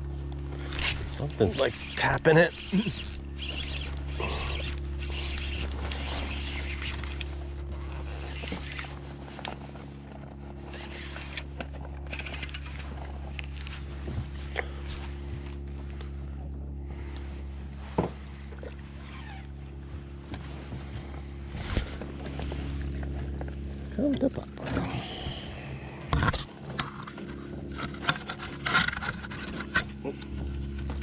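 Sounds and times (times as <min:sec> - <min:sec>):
small motor humming: 0:00.0 - 0:31.0.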